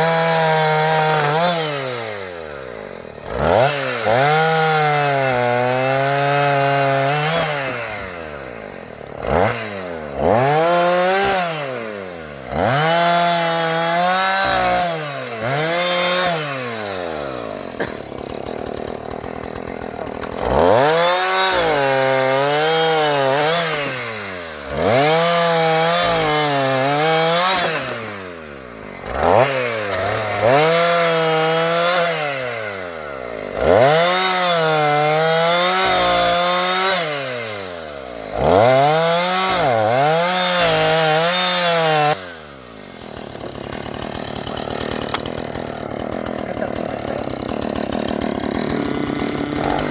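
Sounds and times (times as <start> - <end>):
chainsaw cutting wood: 0.0 - 49.9
chainsaw idling: 0.0 - 49.9.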